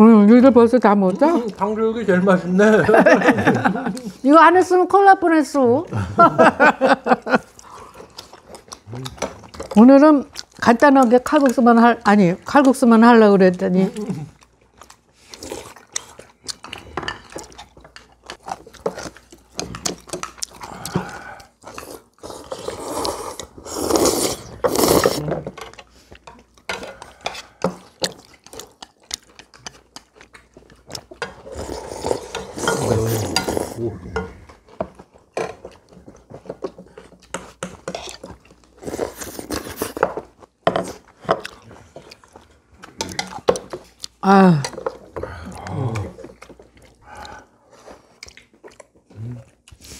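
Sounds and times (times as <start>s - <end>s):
eating sounds: 7.2s - 11.7s, 13.4s - 49.9s.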